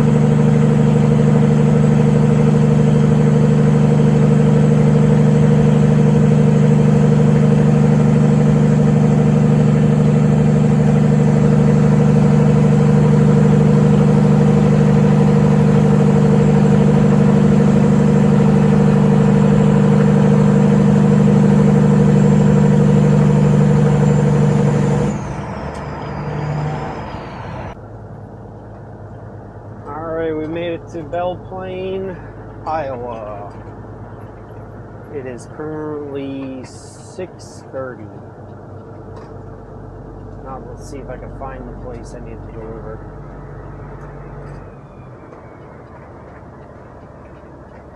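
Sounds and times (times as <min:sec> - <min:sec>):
truck diesel engine droning: 0:00.0 - 0:47.9.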